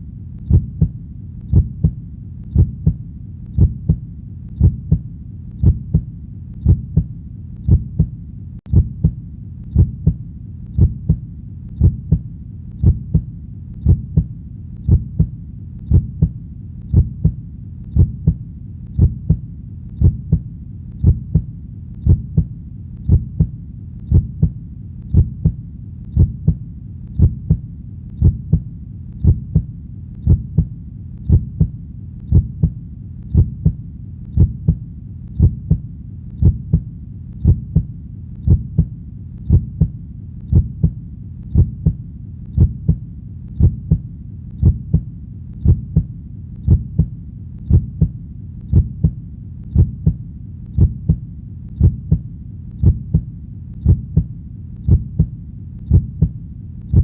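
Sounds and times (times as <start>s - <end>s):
faint low hum: 0.0s - 57.0s
heartbeat thumps: 0.0s - 57.0s.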